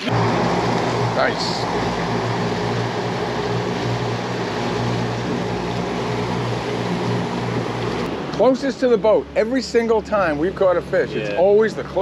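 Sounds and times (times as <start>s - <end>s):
outboard motors humming: 0.0s - 12.0s
wind: 0.0s - 12.0s.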